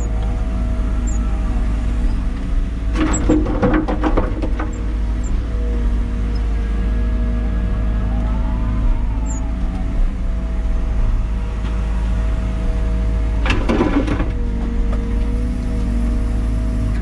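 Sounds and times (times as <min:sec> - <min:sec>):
excavator engine and hydraulics: 0:00.0 - 0:17.0.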